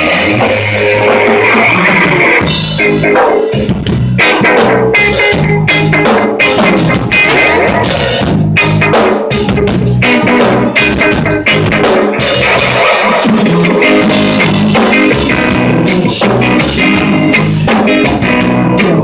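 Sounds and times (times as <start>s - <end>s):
electric guitar: 0.0s - 19.0s
live rock band playing: 0.0s - 19.0s
drum hits: 2.4s - 18.2s.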